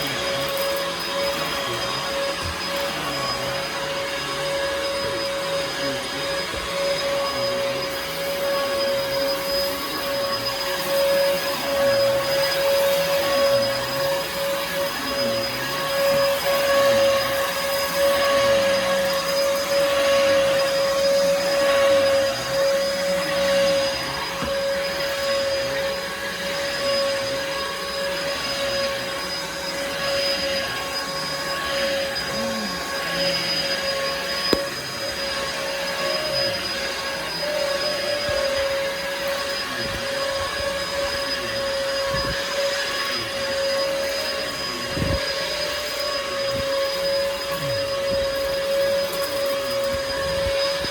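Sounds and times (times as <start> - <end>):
vacuum cleaner motor whine: 0.0 - 50.9.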